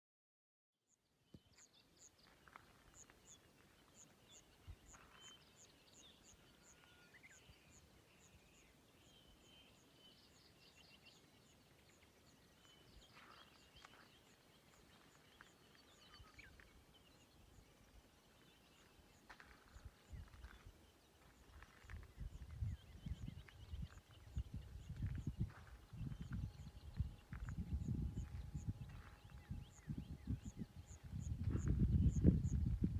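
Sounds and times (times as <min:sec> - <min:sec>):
other birds chirping and trilling: 0:01.3 - 0:32.8.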